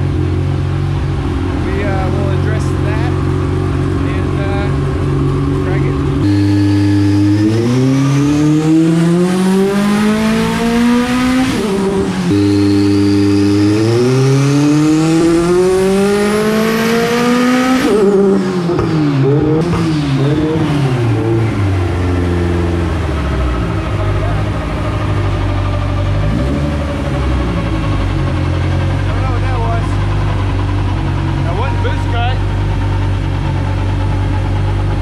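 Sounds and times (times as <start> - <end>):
car engine revving under load: 0.0 - 35.0
high turbo whine: 0.0 - 35.0.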